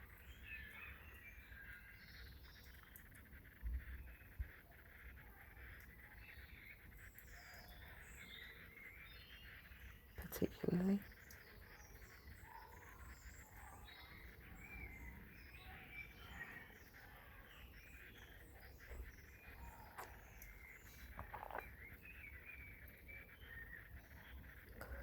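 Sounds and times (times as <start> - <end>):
distant birds chirping: 0.0 - 25.0.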